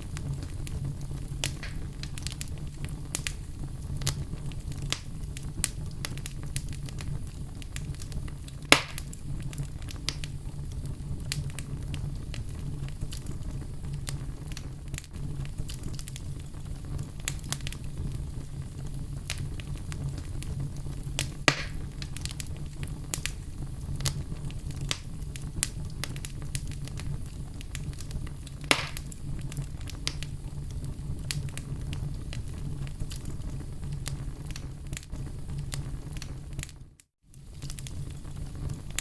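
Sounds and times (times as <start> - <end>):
fire crackling in fireplace: 0.0 - 39.0
loud fire pops: 0.0 - 39.0.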